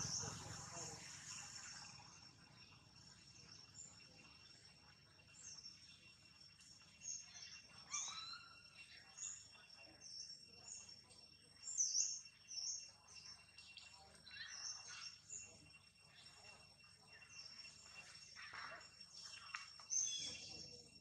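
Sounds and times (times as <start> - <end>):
birds chirping: 0.0 - 21.0
high-pitched insect drone: 0.0 - 21.0.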